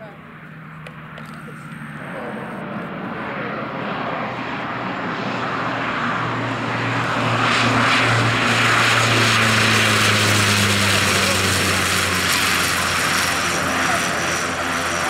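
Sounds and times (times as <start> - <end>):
turboprop aircraft engine running: 0.0 - 15.0.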